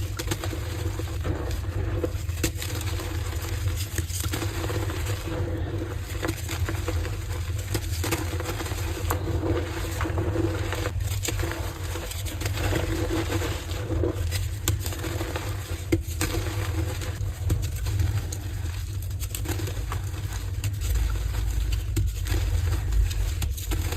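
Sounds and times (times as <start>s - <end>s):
chalk crunching: 0.0s - 23.9s
low hum: 0.4s - 23.9s.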